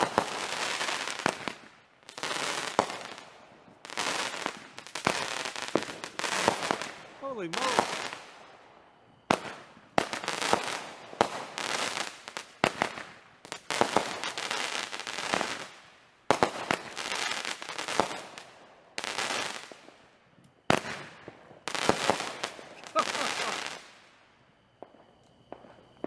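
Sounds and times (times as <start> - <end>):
fireworks banging and crackling: 0.0 - 8.5, 9.3 - 20.0, 20.6 - 24.2, 24.8 - 26.0.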